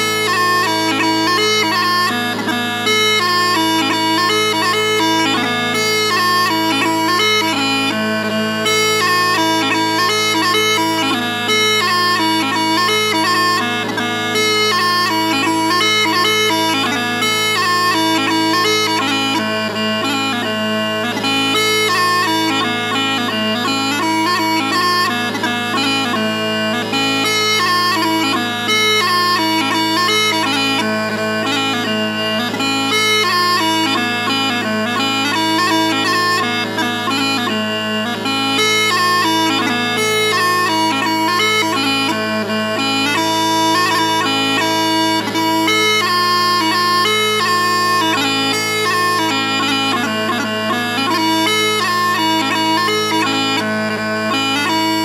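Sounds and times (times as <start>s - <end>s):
smallpipes drones: 0.0s - 55.0s.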